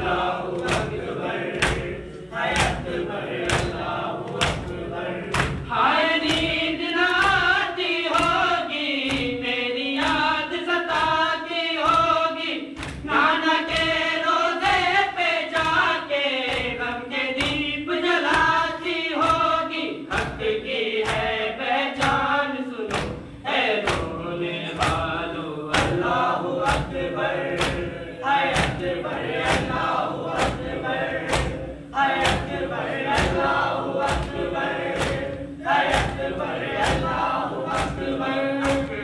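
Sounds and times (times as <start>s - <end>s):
group chanting a lament: 0.0s - 39.0s.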